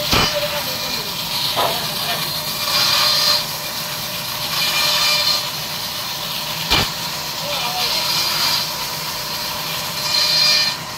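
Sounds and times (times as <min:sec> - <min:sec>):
band saw cutting log: 0:00.0 - 0:10.9.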